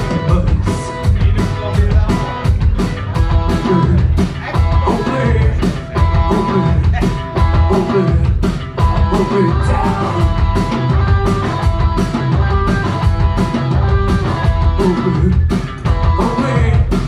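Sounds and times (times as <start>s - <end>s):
drum kit beat: 0.0s - 17.0s
electric guitar: 0.0s - 17.0s.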